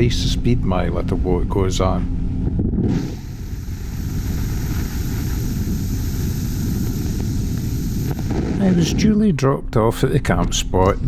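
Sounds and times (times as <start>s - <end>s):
boat engine drone: 0.0s - 9.0s
wind: 0.0s - 11.0s.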